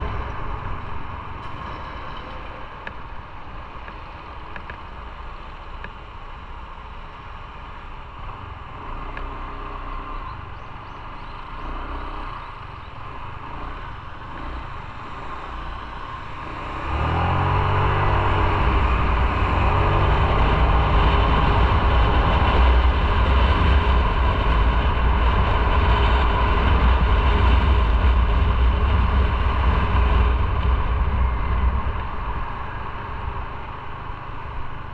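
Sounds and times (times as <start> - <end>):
motorcycle engine accelerating: 0.0 - 34.9
road noise: 0.0 - 34.9.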